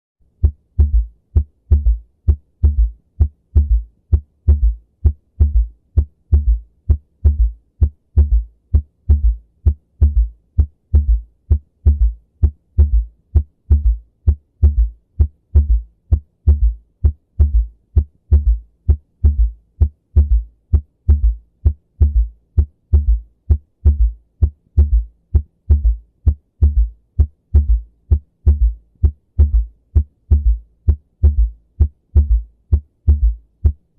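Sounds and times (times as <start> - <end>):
heartbeat through stethoscope: 0.3 - 33.9.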